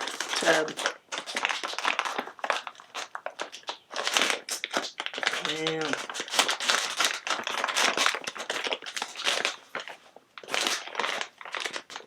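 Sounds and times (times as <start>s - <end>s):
snack bag crinkling: 0.0s - 12.0s.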